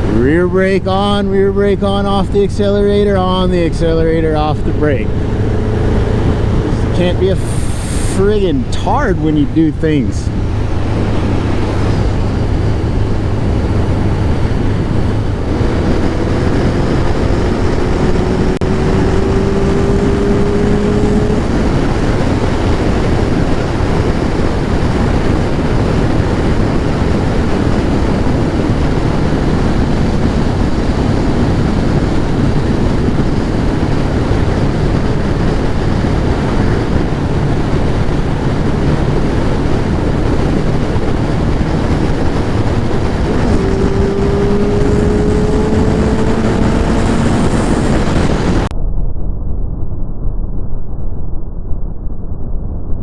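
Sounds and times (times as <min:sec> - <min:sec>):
motorcycle engine running: 0:00.0 - 0:48.7
wind rush on microphone: 0:00.0 - 0:53.0
rising tone: 0:03.0 - 0:23.1, 0:28.2 - 0:53.0.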